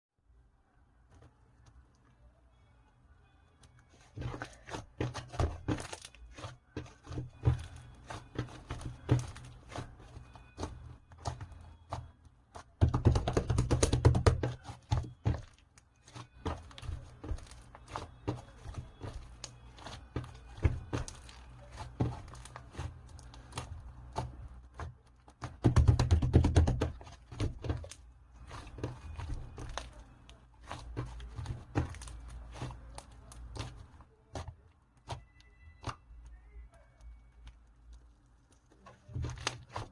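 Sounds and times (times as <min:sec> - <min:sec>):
dense crackling of slime: 0:03.7 - 0:39.9.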